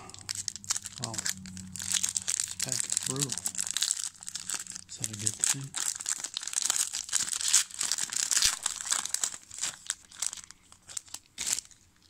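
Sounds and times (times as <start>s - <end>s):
plastic wrapper tearing and crinkling: 0.0s - 12.0s.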